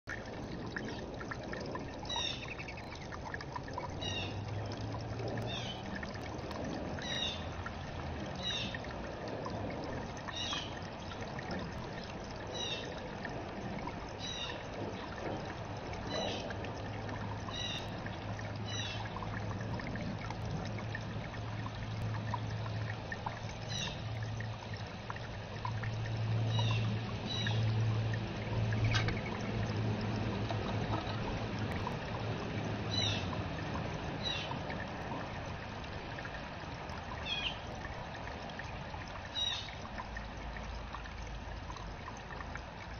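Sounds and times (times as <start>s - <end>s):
low steady hum: 0.0s - 42.9s
water trickling over stones: 0.0s - 42.9s.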